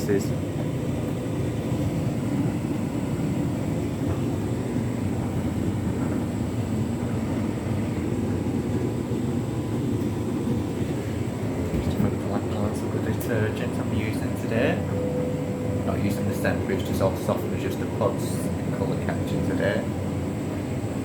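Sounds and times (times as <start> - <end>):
rumble of turning drums and motors: 0.0 - 21.0.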